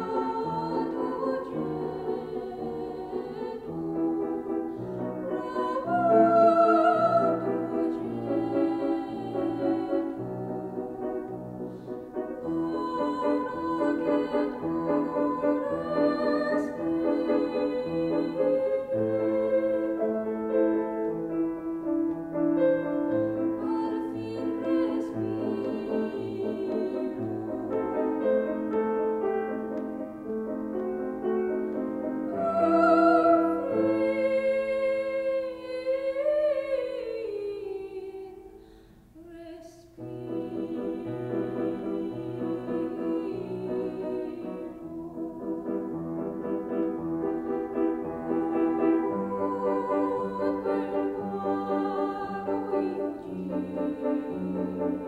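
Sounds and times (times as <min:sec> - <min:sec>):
woman singing opera: 0:00.0 - 0:11.5, 0:12.2 - 0:21.0, 0:22.8 - 0:28.7, 0:32.1 - 0:45.9, 0:47.3 - 0:55.0
grand piano accompaniment: 0:00.0 - 0:39.0, 0:39.8 - 0:55.0.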